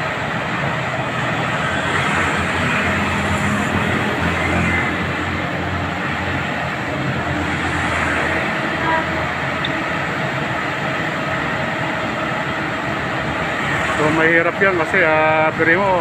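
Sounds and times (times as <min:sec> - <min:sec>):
heavy diesel engine rumble: 0:00.0 - 0:16.0.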